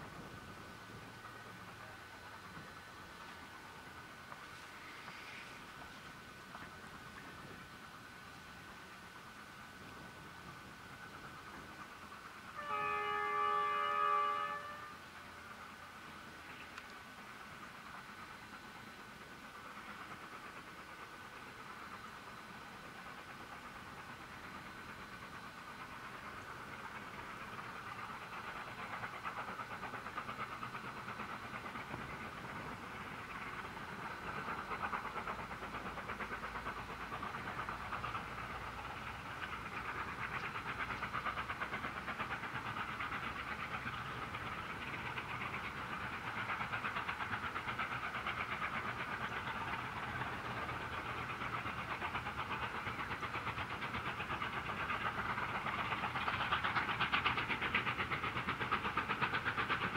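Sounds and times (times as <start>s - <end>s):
distant steam locomotive exhaust: 0.0s - 59.9s.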